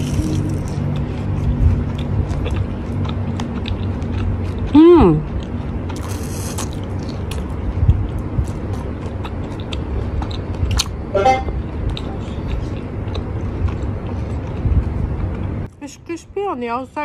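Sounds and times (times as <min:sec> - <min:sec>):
low rumble: 0:00.0 - 0:06.1, 0:06.7 - 0:15.8
crunchy chewing: 0:00.0 - 0:11.0, 0:11.9 - 0:15.7.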